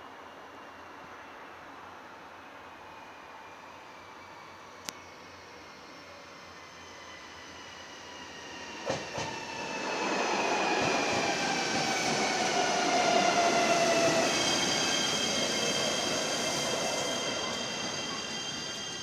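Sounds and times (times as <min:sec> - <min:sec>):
electric train arriving: 0:00.1 - 0:19.0.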